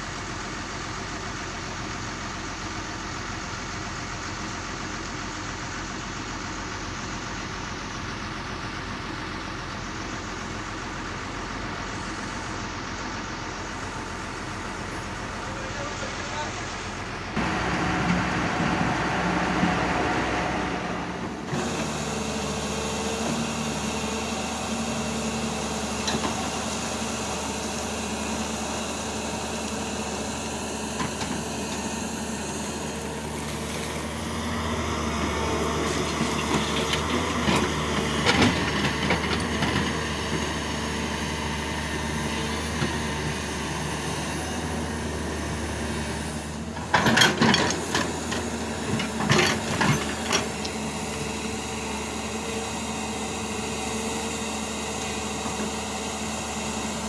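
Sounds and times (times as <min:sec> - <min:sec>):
different engine noise: 0:00.0 - 0:57.0
excavator diesel engine running: 0:00.0 - 0:57.0.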